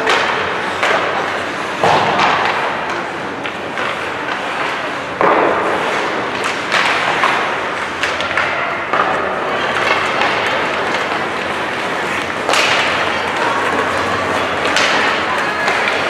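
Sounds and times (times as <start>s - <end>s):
puck thuds against boards: 0.0s - 16.0s.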